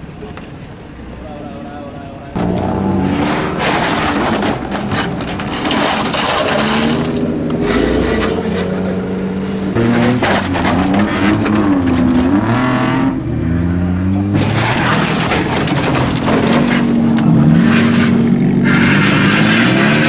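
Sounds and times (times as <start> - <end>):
loud car engine revving: 2.3 - 20.0.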